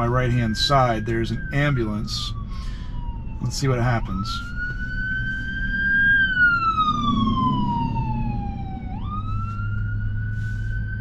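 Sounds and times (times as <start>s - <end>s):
ambulance siren wailing: 0.0s - 11.0s
low road rumble: 0.0s - 11.0s.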